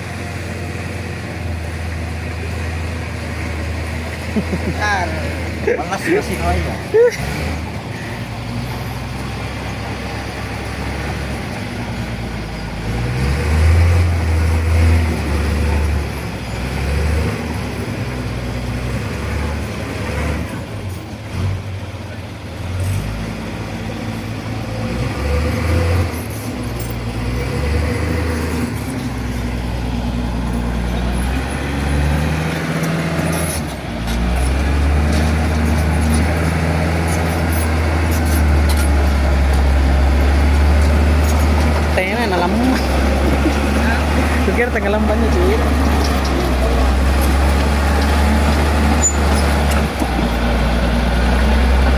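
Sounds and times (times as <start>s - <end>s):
diesel truck engine revving: 0.0s - 51.9s.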